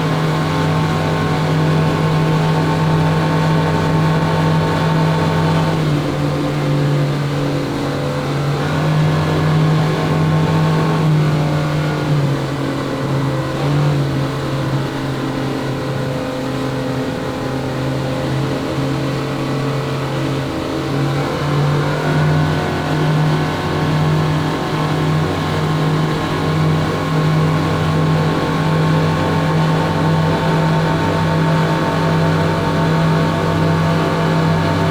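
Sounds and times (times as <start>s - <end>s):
boat engines at high speed: 0.0s - 34.9s.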